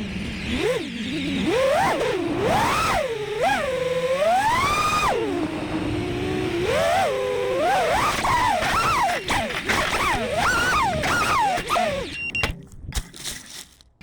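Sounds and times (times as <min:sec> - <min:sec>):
drone motors whining: 0:00.0 - 0:12.5.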